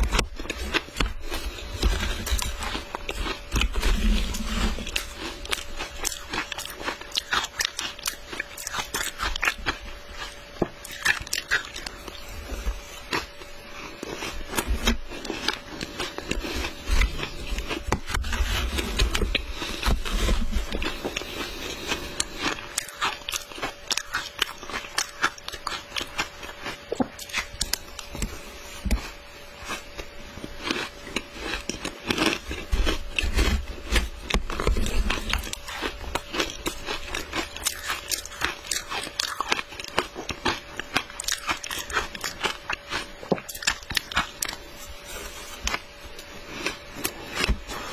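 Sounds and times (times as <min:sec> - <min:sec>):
shaved ice crunching in mouth: 0:00.0 - 0:28.4, 0:29.1 - 0:47.9
faint steady hum: 0:00.0 - 0:47.9.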